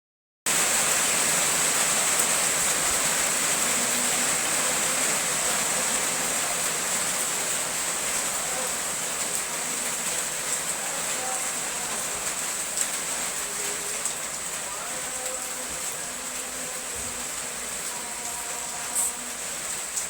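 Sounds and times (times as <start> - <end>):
steady rain hiss: 0.5 - 20.0.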